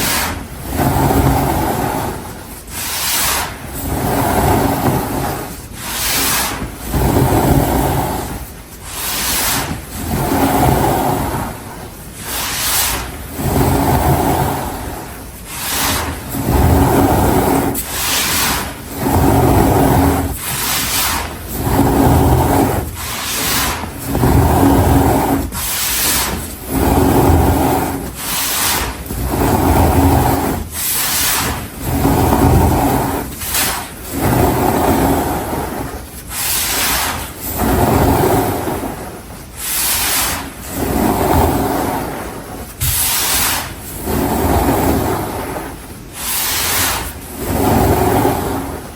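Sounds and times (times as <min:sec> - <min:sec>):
hands rubbing powder: 0:00.0 - 0:48.8.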